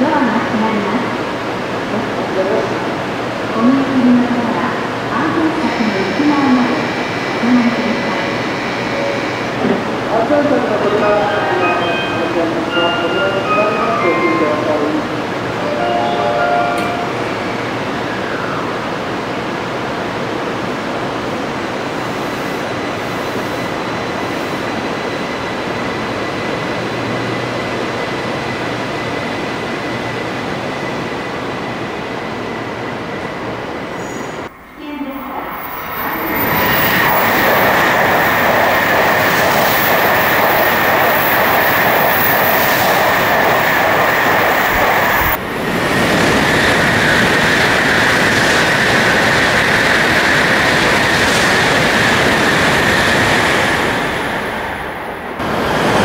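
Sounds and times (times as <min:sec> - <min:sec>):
high train whine: 0:00.0 - 0:56.0
rush of passing train: 0:00.0 - 0:56.0
train rumbling: 0:00.0 - 0:56.0.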